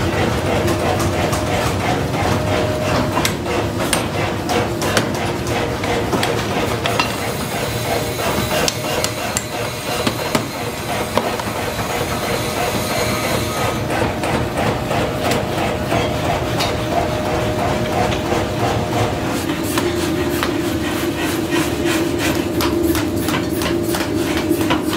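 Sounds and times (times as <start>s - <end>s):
machine hum: 0.0s - 23.2s
power hammer pounding metal: 0.0s - 24.9s.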